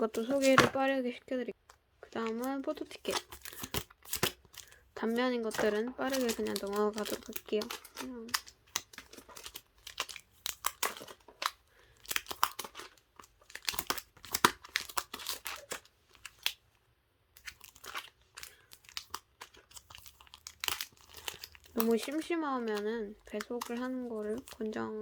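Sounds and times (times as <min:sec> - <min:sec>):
paper crinkling and rustling: 0:00.0 - 0:00.9, 0:02.1 - 0:16.6, 0:17.4 - 0:25.0.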